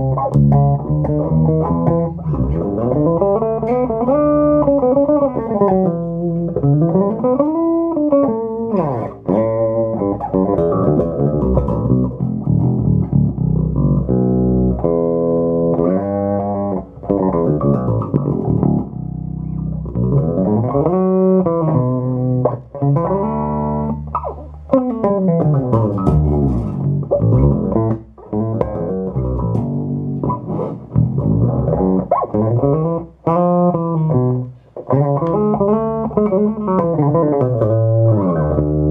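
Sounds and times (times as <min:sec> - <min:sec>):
electric bass plucked notes: 0:00.0 - 0:38.9.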